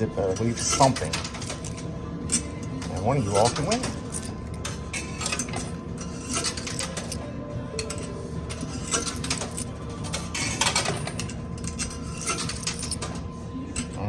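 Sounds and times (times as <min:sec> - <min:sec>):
coins clinking in machine: 0:00.0 - 0:14.0.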